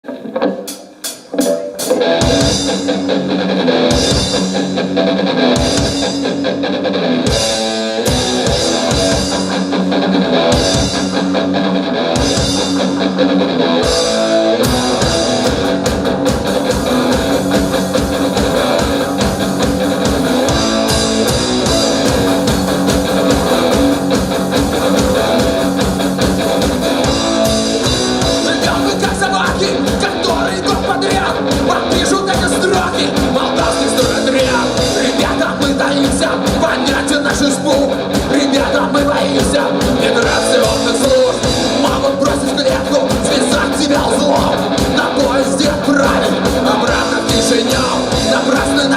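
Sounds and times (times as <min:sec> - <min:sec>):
rock band playing: 0:00.0 - 0:48.9.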